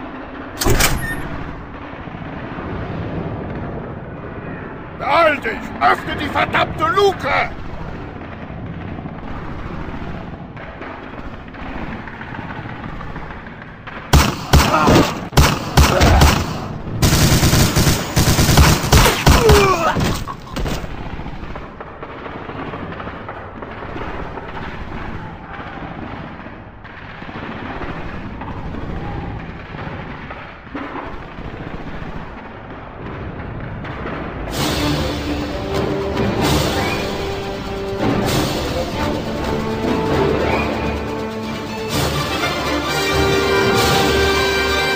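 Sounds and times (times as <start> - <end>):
battle background: 0.0 - 44.9
gunshots: 0.0 - 44.9
rapid automatic gunfire: 0.0 - 44.9.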